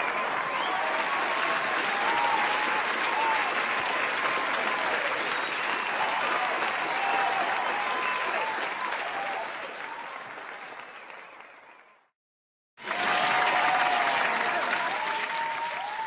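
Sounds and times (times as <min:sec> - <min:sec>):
crowd applauding and cheering: 0:00.0 - 0:12.1, 0:12.8 - 0:16.0.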